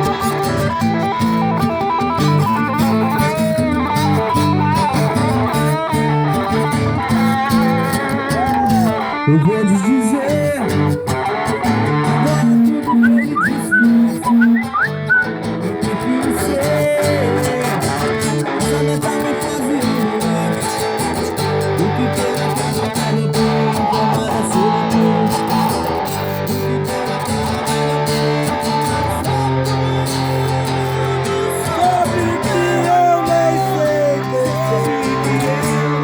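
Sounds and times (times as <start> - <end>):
guitar playing instrumental tune: 0.0 - 36.0.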